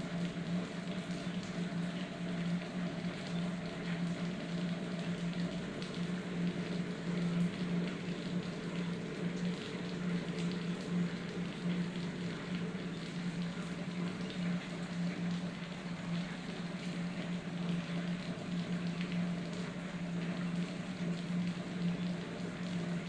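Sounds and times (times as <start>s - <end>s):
constant low hum: 0.0s - 23.0s
rain pattering: 0.0s - 23.0s.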